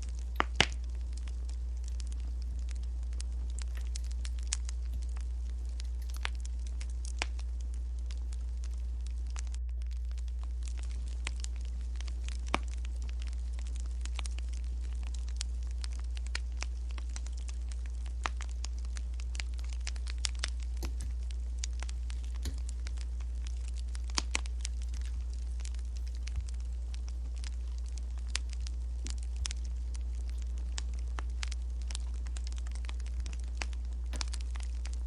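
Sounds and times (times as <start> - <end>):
low steady hum: 0.0 - 35.0
wood fire crackling: 0.0 - 35.0.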